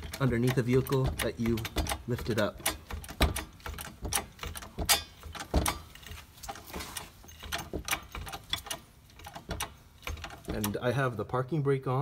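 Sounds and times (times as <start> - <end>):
floor jack clicking and clanking: 0.0 - 10.9.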